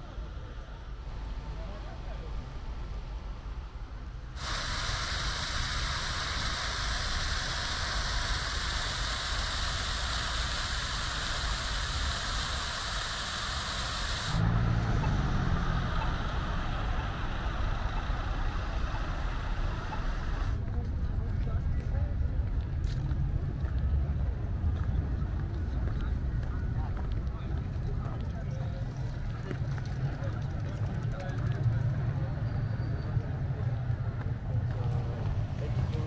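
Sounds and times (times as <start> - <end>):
city car traffic hum: 0.0 - 36.0.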